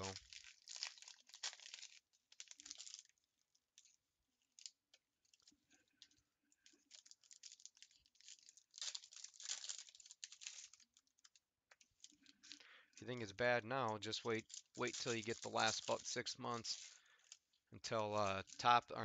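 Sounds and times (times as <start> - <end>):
foil wrappers crinkling: 0.0 - 19.0.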